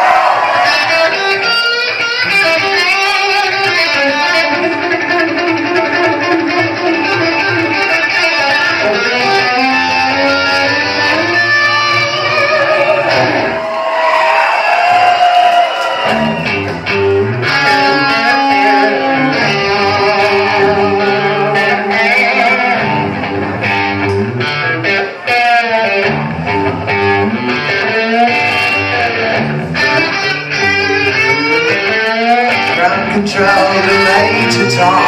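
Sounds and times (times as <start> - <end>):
rock drums: 0.0 - 35.0
bass guitar: 0.2 - 13.7, 16.0 - 35.0
electric guitar lead lines: 0.4 - 13.8, 16.0 - 35.0.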